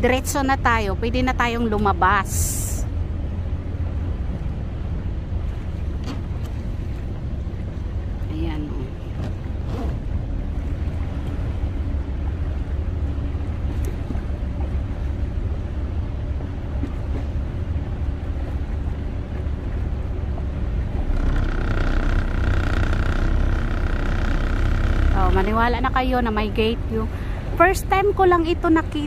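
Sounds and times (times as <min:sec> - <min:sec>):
boat engine running: 0:00.0 - 0:29.0
steady whine: 0:00.0 - 0:29.0.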